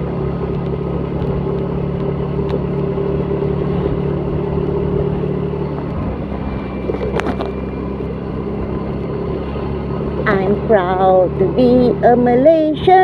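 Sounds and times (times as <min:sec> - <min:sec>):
motor scooter engine humming: 0:00.0 - 0:13.0
road noise: 0:00.0 - 0:13.0.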